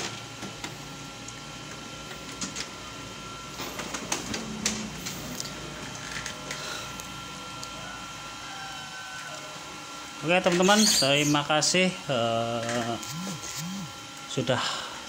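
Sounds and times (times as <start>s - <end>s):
printer whine: 0.0s - 14.9s.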